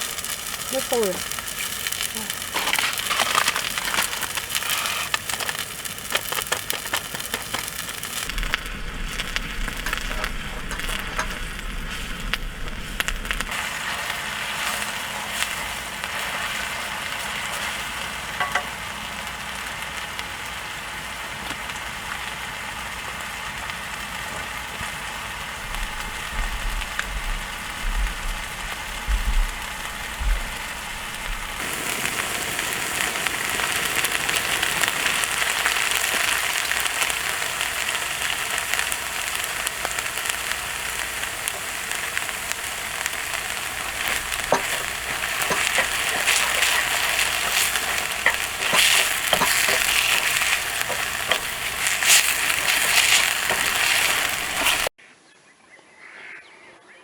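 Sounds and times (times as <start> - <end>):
water boiling and bubbling: 0.0 - 55.0.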